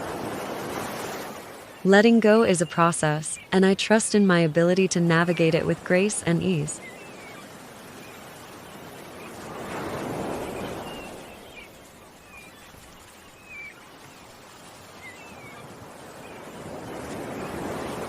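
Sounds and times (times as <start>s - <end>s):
small birds chirping: 1.7s - 18.0s.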